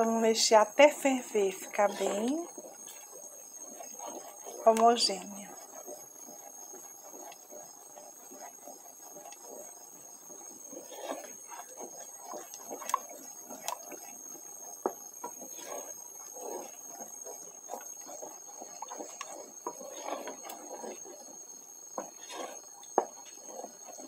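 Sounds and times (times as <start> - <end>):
spoon swishing through sauce: 1.1 - 21.4.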